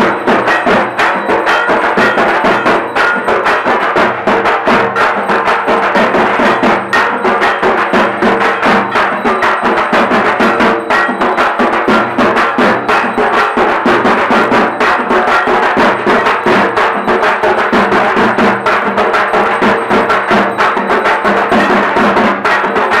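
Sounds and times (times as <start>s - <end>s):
fast percussion music: 0.0s - 23.0s.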